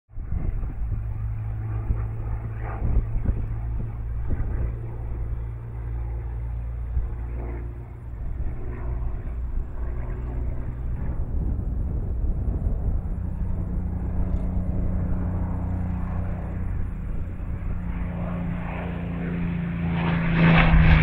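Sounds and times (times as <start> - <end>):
propeller plane engine droning: 0.1 - 21.0.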